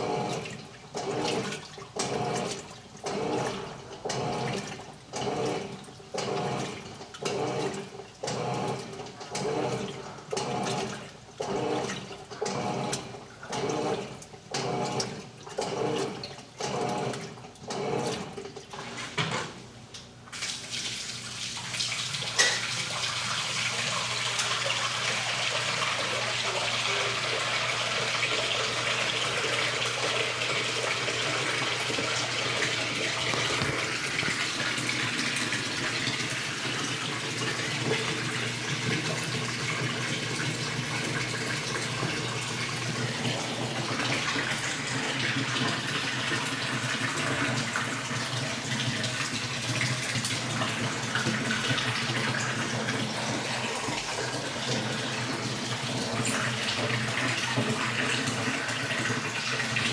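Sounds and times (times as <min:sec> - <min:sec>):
water running in washing machine: 0:00.0 - 0:59.9.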